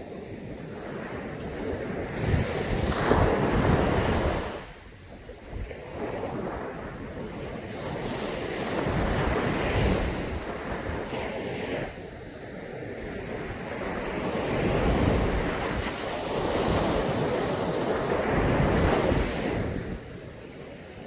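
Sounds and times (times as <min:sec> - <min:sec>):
sea waves breaking on beach: 0:00.0 - 0:21.0
wind rumbling on microphone: 0:00.0 - 0:21.0.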